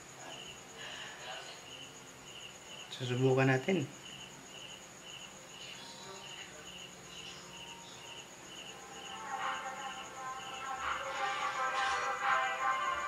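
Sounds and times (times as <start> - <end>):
crickets chirping: 0.0 - 13.0
faint music from amplifier: 0.0 - 13.0.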